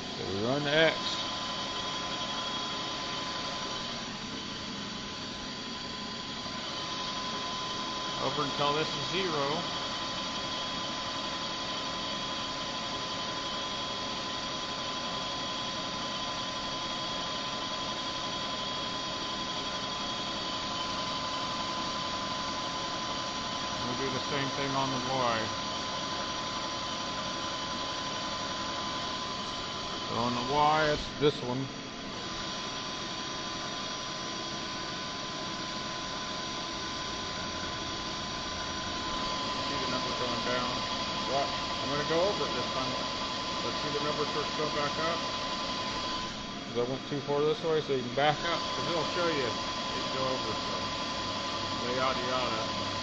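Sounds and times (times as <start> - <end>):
high whine: 0.0 - 53.0
milling machine humming: 0.0 - 53.0.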